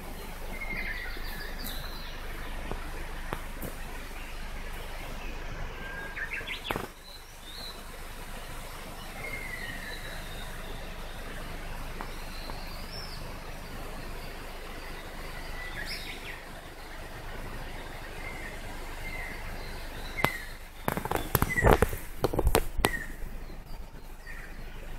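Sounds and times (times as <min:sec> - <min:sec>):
background hiss: 0:00.0 - 0:24.9
kingfisher calling: 0:00.0 - 0:24.9.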